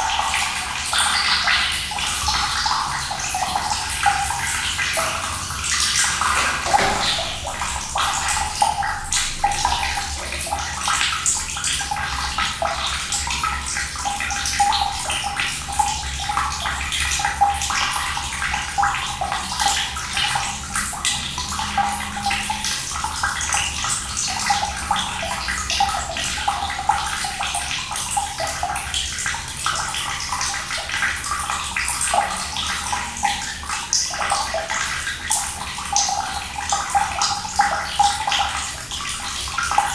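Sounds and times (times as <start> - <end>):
running water splashing: 0.0 - 39.9.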